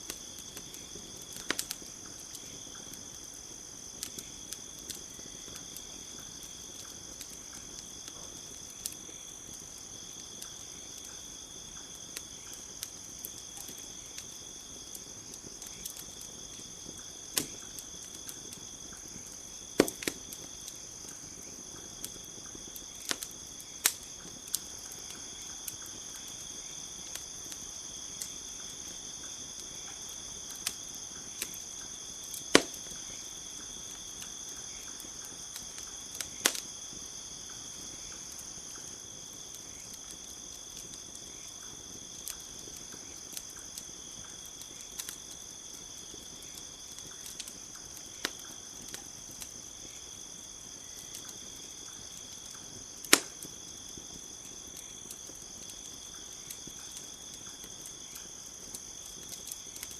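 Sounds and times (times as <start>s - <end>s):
campfire crackling and popping: 0.0s - 59.9s
crickets chirring: 0.0s - 59.9s.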